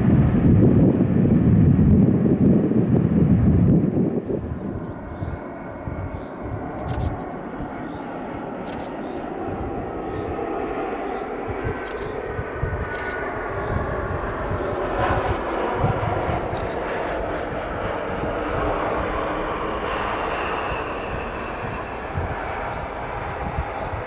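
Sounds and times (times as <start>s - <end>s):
jet engines of landing airliner: 0.0s - 24.0s
faint engine whine: 2.2s - 24.0s.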